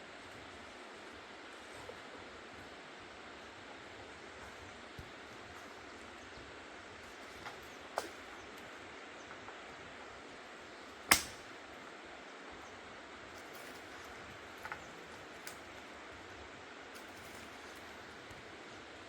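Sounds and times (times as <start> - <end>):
outdoor hiss: 0.0 - 19.0.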